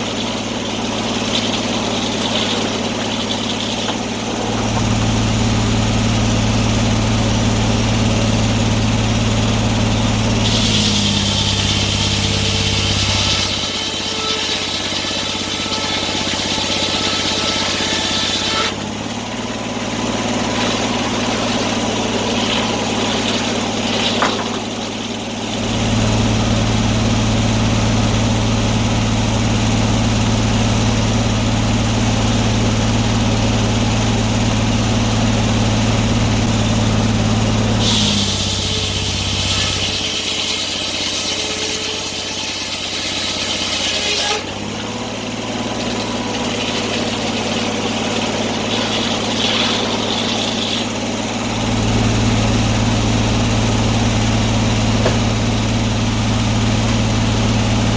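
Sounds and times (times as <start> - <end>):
sawmill machine hum: 0.0 - 57.9.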